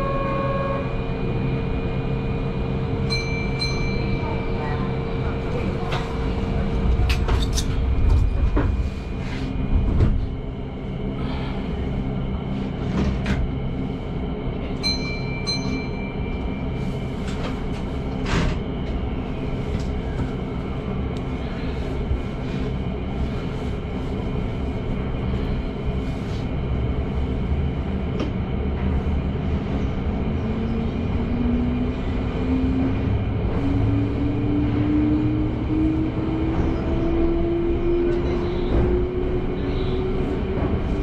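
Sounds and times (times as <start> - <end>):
train rumbling underground: 0.0 - 41.0.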